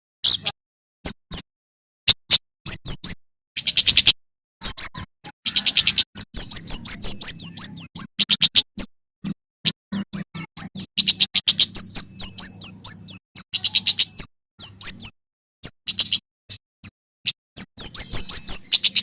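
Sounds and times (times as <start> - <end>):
songbird singing: 0.2 - 1.4, 2.7 - 19.0.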